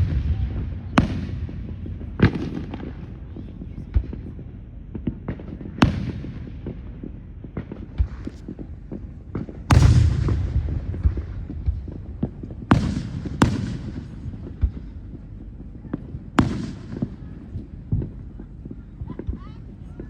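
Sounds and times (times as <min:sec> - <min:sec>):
firework pops and crackles: 0:00.0 - 0:20.0
fireworks booming: 0:00.0 - 0:20.0.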